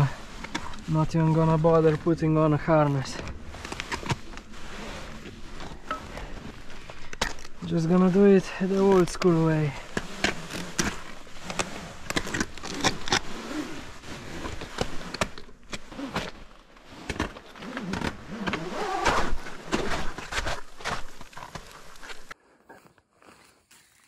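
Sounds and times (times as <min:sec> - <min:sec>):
rope rubbing on rock: 0:00.0 - 0:22.4.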